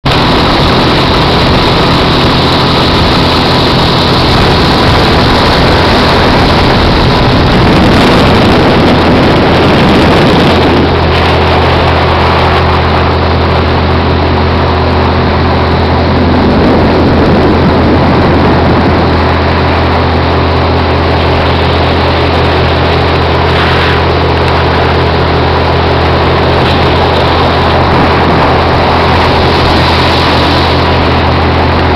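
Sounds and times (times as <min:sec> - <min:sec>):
outboard motor running: 0:00.0 - 0:31.9
rushing wind and water: 0:00.0 - 0:31.9.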